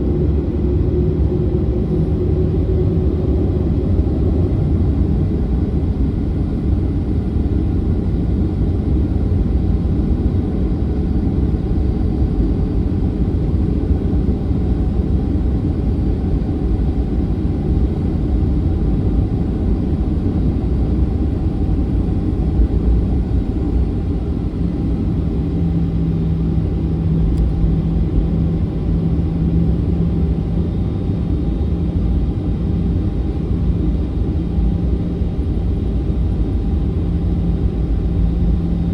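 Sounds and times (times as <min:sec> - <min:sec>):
jet engines rumbling: 0:00.0 - 0:38.9
low steady hum: 0:00.0 - 0:38.9.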